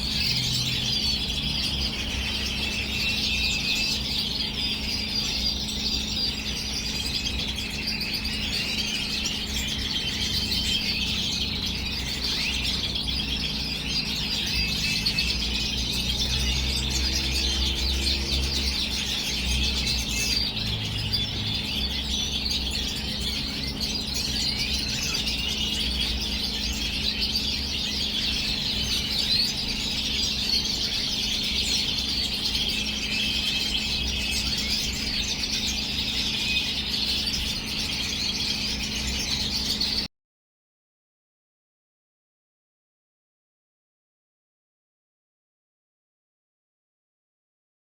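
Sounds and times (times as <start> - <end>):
birds chirping and twittering: 0.0 - 40.1.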